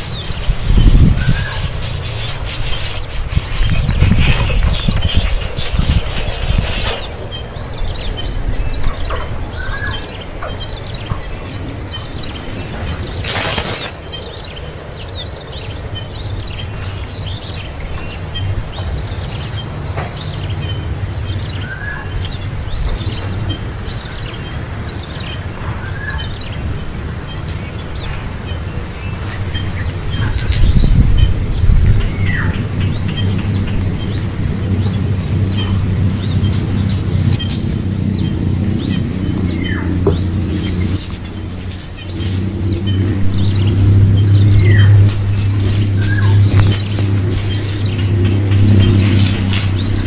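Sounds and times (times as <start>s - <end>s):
high-pitched insect buzz: 0.0s - 50.0s
small birds chirping: 0.0s - 50.0s.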